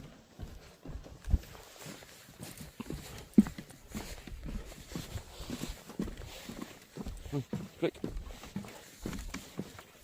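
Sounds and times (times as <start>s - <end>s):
footsteps walking: 0.0s - 10.0s.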